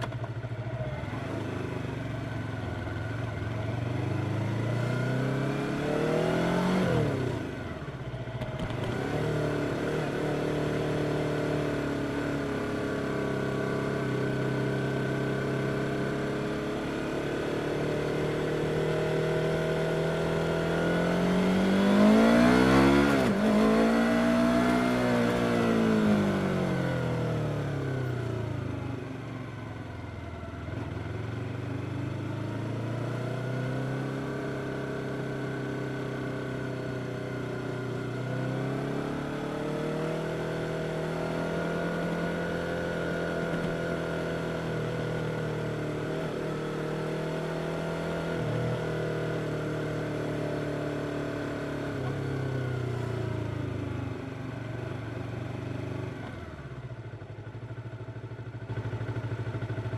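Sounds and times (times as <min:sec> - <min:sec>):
motorcycle engine revving: 0:00.0 - 0:29.6, 0:30.7 - 0:59.9.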